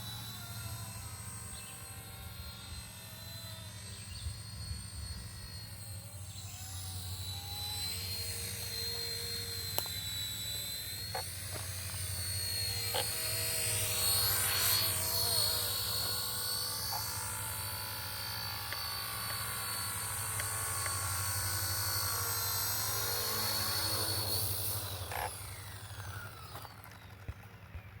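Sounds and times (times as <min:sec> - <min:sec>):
model helicopter motor whine: 0:00.0 - 0:28.0.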